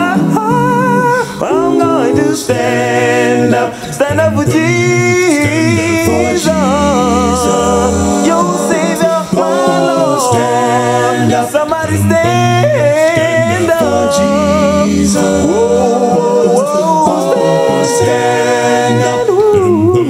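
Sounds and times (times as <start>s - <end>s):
male a cappella group singing: 0.0s - 20.0s.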